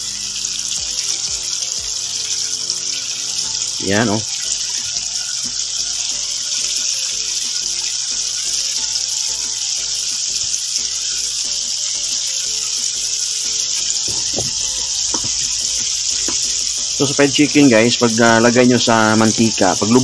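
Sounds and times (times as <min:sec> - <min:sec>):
chicken deep-frying in oil: 0:00.0 - 0:20.0.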